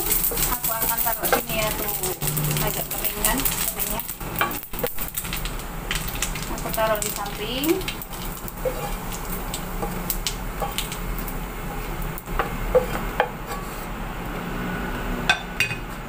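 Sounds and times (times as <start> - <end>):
wooden spatula scraping wok: 0.0 - 14.7.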